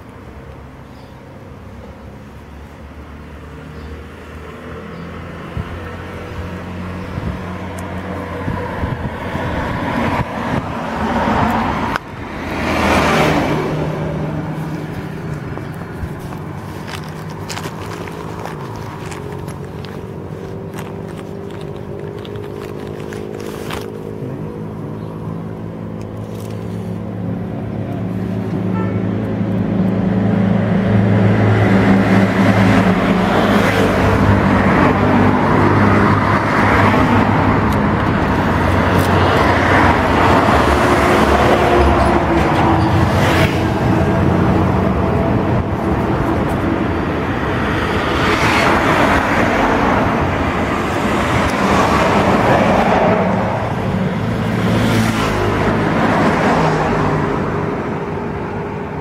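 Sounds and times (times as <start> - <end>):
bus engine humming: 0.0 - 59.0
road noise: 0.0 - 59.0.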